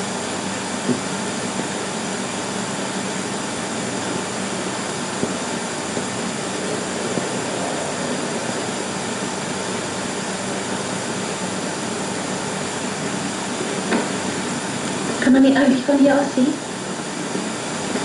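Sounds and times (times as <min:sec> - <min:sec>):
film soundtrack rushing noise: 0:00.0 - 0:18.0.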